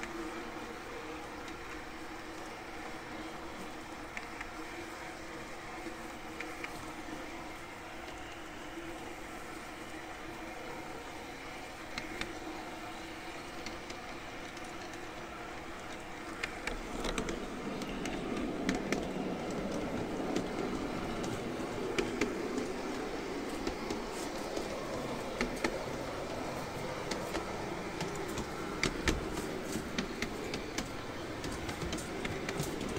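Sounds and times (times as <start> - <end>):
model train running hum: 0.0 - 32.9
wheels clicking on rails: 0.0 - 32.9.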